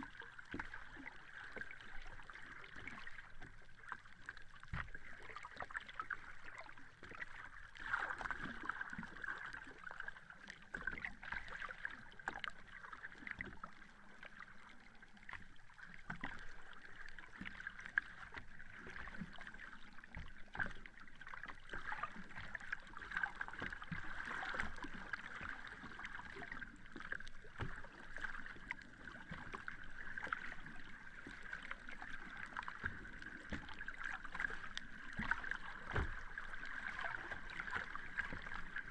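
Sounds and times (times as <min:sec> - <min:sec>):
sea water lapping and splashing: 0:00.0 - 0:38.9.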